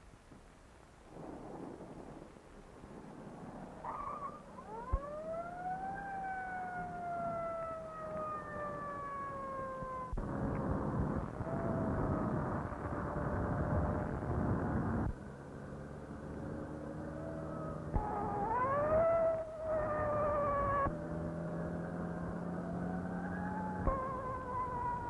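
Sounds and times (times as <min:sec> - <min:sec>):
rushing car noise: 0:03.6 - 0:25.0
police siren wailing: 0:03.8 - 0:25.0.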